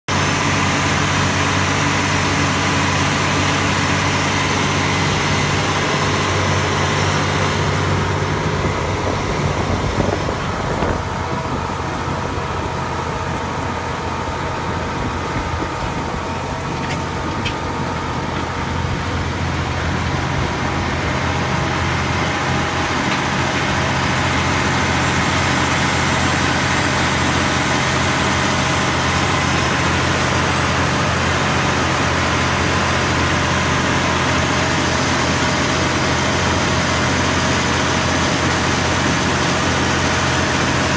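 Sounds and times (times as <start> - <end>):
tractor engine drone: 0.0 - 40.9.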